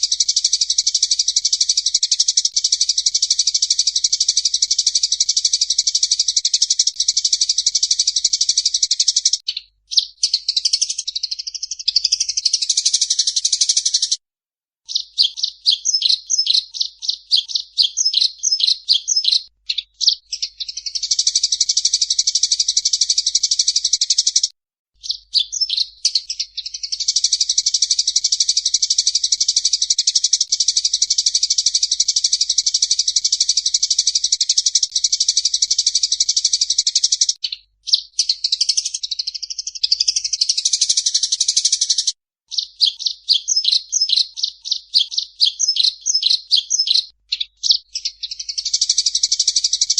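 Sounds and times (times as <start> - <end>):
songbird chirps and trills: 0.0 - 14.2, 14.9 - 49.9.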